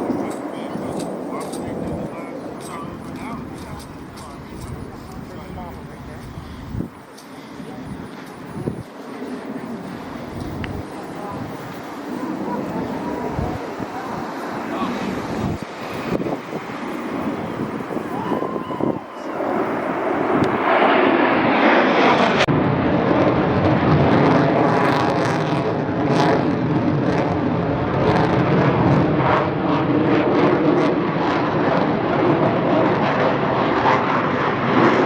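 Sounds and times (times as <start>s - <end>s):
jet aircraft flying past: 0.0s - 35.0s.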